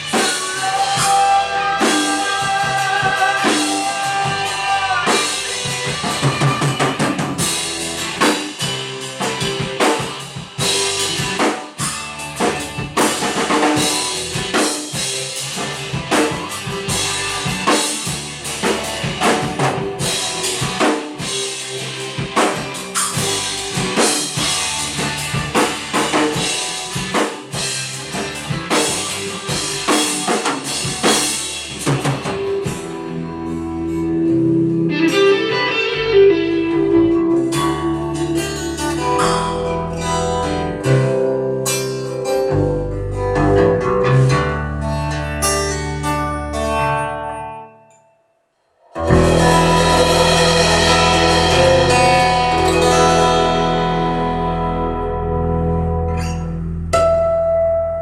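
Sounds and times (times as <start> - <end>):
drum kit: 0.0 - 44.5, 49.0 - 56.4
electric guitar: 0.0 - 47.7, 49.0 - 58.0.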